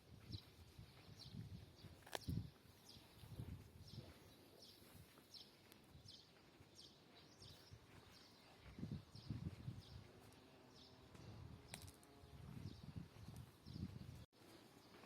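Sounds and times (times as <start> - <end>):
bird chirping: 0.2 - 15.0.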